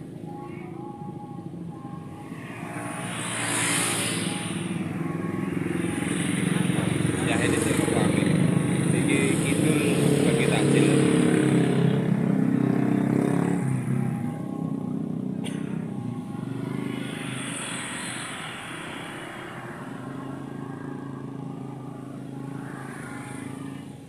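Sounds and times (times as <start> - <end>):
motorcycles and cars passing: 0.0 - 24.0.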